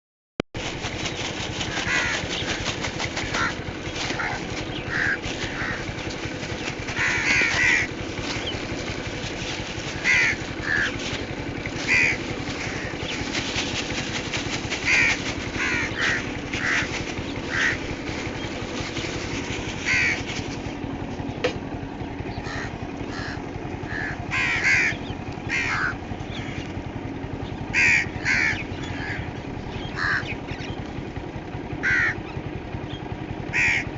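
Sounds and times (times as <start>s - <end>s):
birds calling: 0.6s - 33.9s
steady background noise: 0.6s - 33.9s.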